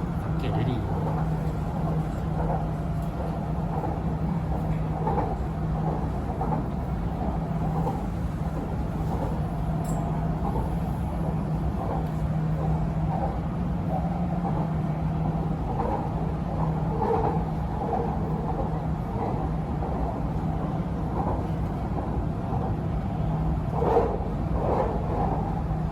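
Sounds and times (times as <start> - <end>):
electric train rumble: 0.0 - 25.9.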